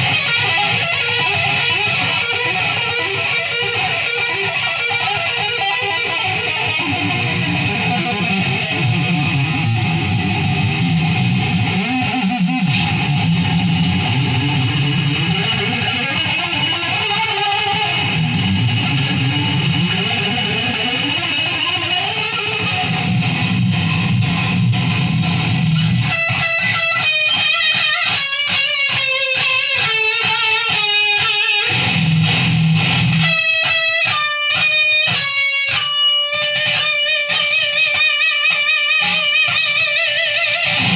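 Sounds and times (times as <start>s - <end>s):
electric guitar playing: 0.0s - 40.9s.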